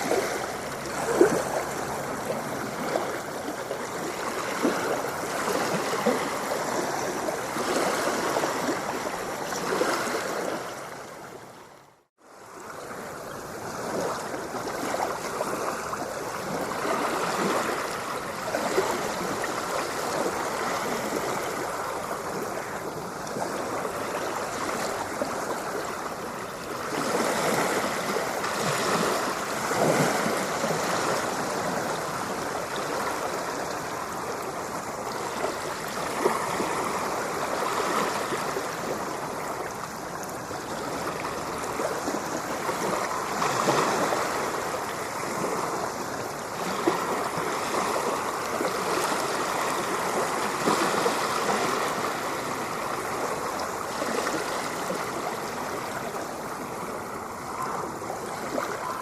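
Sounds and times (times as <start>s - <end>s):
ocean waves rushing: 0.0s - 59.0s.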